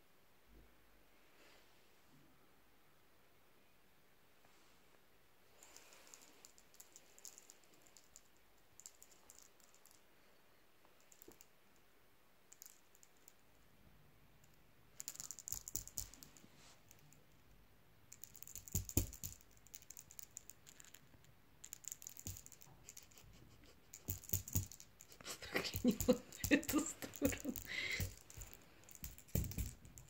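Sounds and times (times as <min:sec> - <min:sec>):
faint clicking and rattling: 0:05.5 - 0:30.0.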